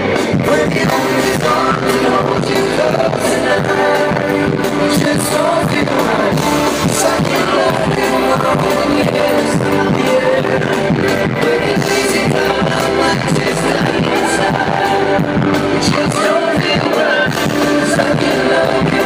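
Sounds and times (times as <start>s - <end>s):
live pop band playing: 0.0s - 19.0s
person singing: 0.0s - 19.0s
steady drum beat: 0.0s - 19.0s.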